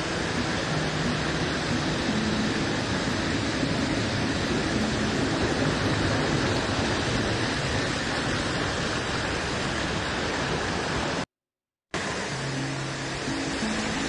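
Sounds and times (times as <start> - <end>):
waterfall rushing: 0.0 - 11.3, 12.0 - 14.0.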